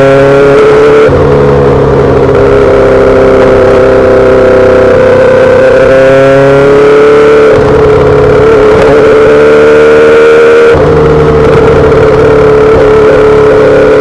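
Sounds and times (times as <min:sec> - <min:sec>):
motorcycle engine running loud: 0:00.0 - 0:14.0.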